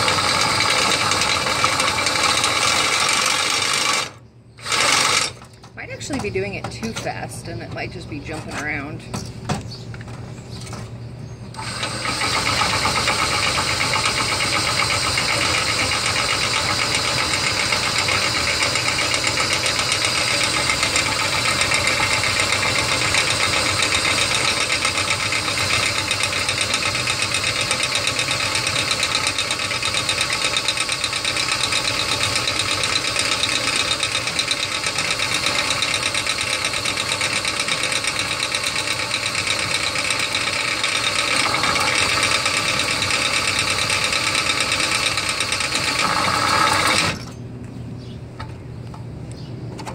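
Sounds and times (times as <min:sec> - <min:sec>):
cordless drill whining: 0:00.0 - 0:05.6, 0:11.5 - 0:47.4.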